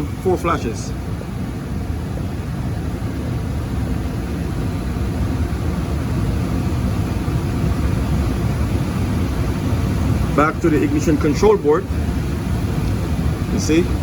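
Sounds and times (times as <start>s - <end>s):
gas furnace rumbling: 0.0s - 14.0s.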